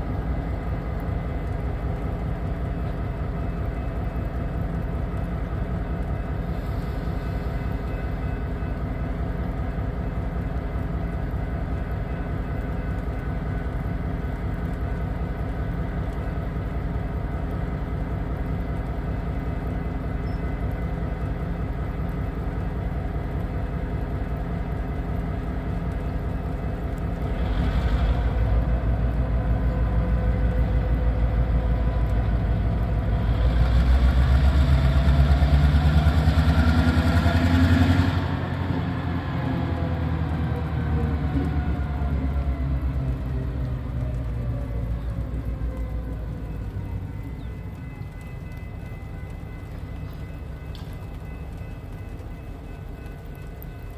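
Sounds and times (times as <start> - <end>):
diesel locomotive engine running: 0.0 - 53.9.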